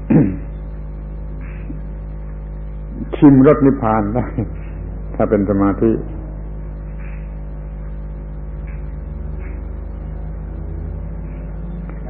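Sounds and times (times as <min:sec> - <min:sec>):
recording hum and hiss: 0:00.0 - 0:12.0.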